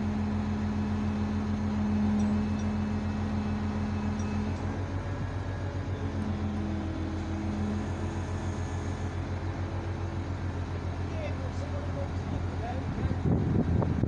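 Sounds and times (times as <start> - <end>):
crane engine droning: 0.0 - 14.0.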